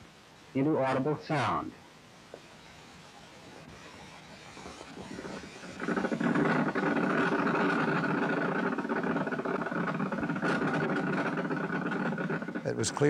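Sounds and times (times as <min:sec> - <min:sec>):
rapid clicking buzz of bat calls: 0:02.3 - 0:12.8.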